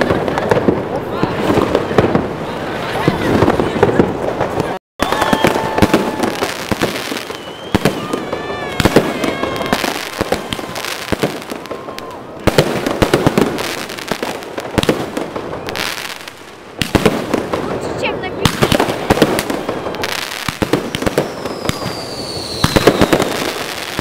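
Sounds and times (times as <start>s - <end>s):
fireworks bangs and crackling pops: 0.0s - 24.0s.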